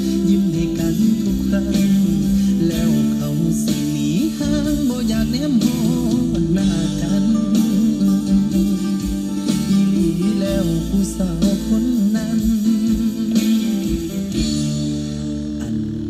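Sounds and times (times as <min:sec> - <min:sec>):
bass: 0:00.0 - 0:16.0
plucked guitar: 0:00.0 - 0:16.0
song from car speakers: 0:00.0 - 0:16.0.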